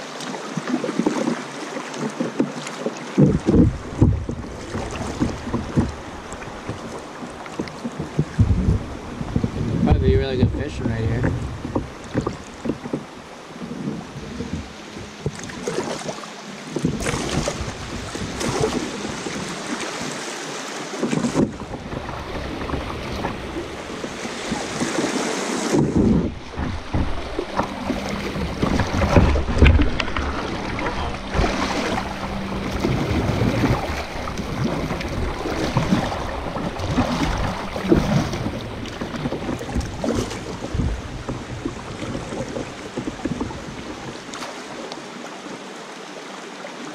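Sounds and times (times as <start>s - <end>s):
water washing: 0.0s - 45.6s
paddle strokes splashing: 0.0s - 46.9s
wind buffeting microphone: 3.2s - 15.9s, 16.7s - 20.2s, 21.0s - 44.4s.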